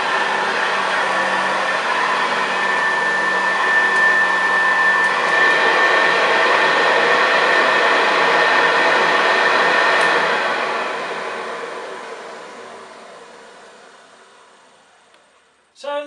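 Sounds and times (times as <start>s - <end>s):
vacuum cleaner running on carpet: 0.0s - 15.6s.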